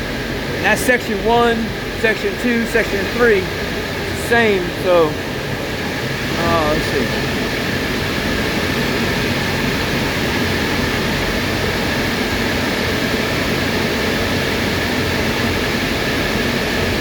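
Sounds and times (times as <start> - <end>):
cooling fans rushing: 0.0 - 17.0
thin steady whine: 0.0 - 17.0.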